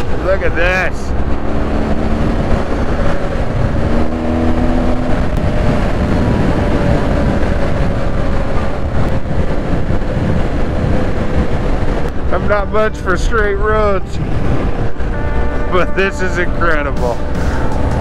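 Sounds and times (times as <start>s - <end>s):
motorcycle engine running: 0.0s - 18.0s
wind rumble on microphone: 0.0s - 18.0s.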